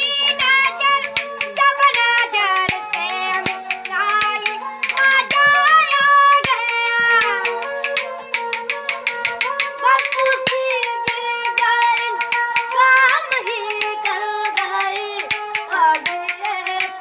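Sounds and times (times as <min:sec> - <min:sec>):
boy singing folk melody: 0:00.0 - 0:17.0
hand-held clappers clicking: 0:00.0 - 0:17.0.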